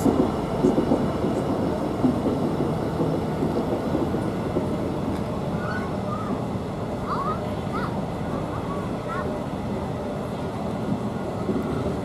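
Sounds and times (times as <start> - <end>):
freight train wagons rumbling: 0.0 - 12.0.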